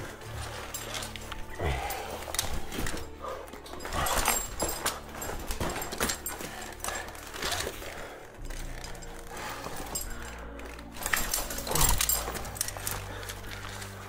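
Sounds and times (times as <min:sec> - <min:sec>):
person breathing hard: 0:00.0 - 0:14.0.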